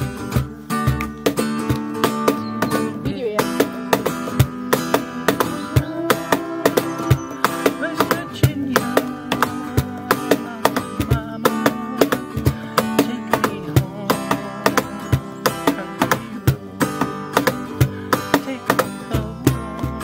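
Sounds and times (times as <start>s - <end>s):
acoustic guitar music: 0.0s - 20.0s
percussive beat: 0.0s - 20.0s.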